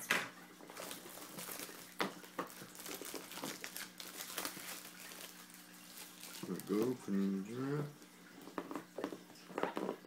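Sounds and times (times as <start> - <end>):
plastic wrapping crinkling: 0.6 - 10.0.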